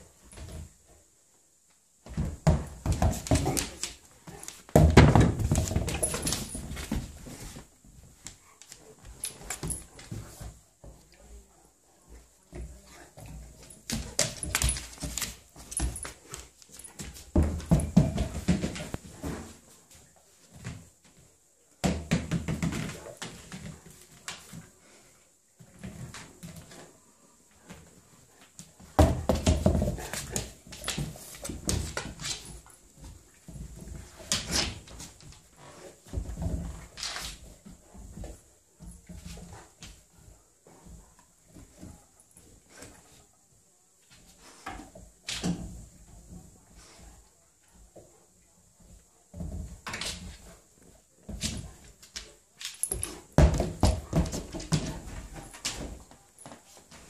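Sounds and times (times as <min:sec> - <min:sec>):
dog paws clicking on floor: 0:01.7 - 0:25.0, 0:25.6 - 0:43.3, 0:44.0 - 0:57.0.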